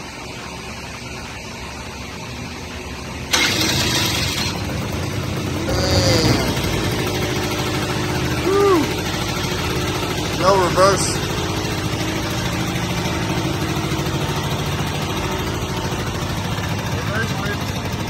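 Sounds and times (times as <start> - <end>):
small engine starting and running: 3.3 - 18.0.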